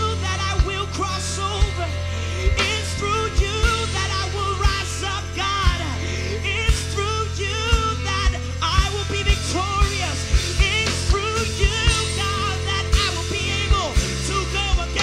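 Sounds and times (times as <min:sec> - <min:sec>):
band playing: 0:00.0 - 0:15.0
bass: 0:00.0 - 0:15.0
person singing a melody: 0:00.0 - 0:15.0.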